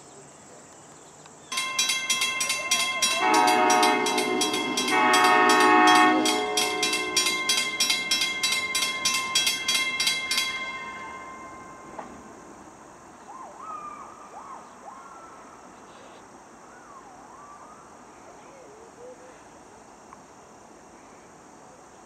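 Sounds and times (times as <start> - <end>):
high drone of insects: 0.0 - 22.0.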